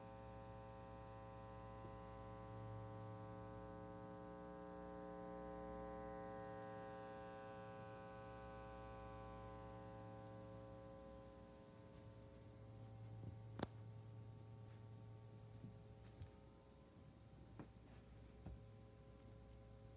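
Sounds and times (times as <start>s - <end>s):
faint mains hum and buzz: 0.0s - 19.9s.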